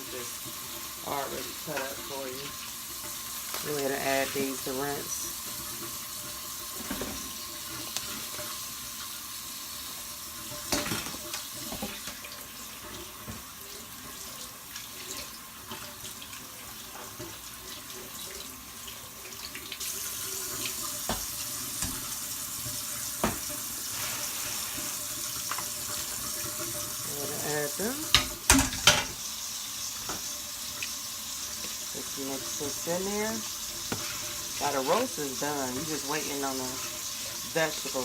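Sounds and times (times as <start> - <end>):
tap running water: 0.0 - 38.0.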